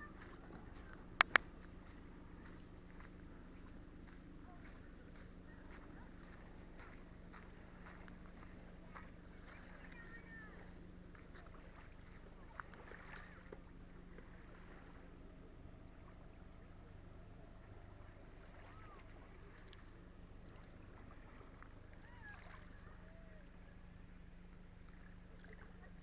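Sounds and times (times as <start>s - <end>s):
paddle splashes and drips: 0.0s - 26.0s
steady low hum: 0.0s - 26.0s.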